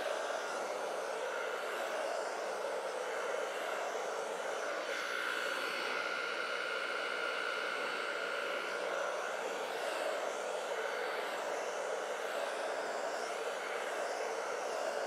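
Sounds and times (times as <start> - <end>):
blow dryer running: 0.0 - 15.0.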